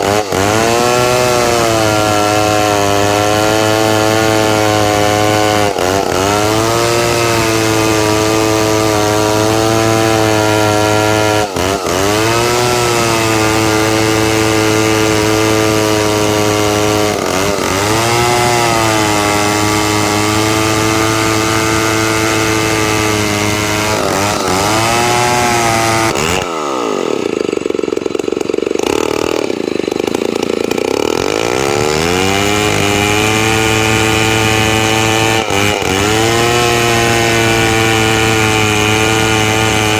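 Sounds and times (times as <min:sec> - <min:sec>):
chainsaw ripping timber: 0:00.0 - 0:39.9.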